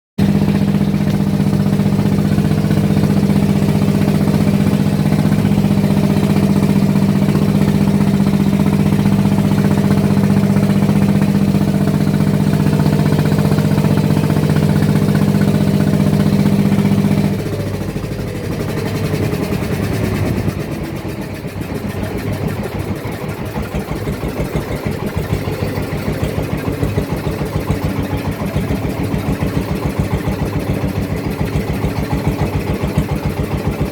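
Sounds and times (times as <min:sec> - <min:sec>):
boat engine chugging: 0:00.2 - 0:33.9.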